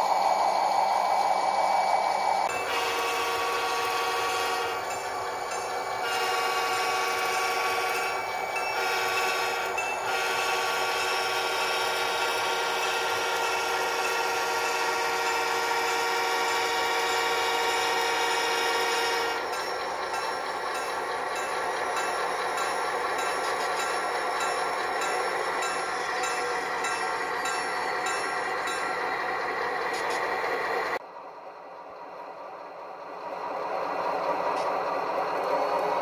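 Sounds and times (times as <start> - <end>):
model locomotive whirring: 0.0 - 36.0.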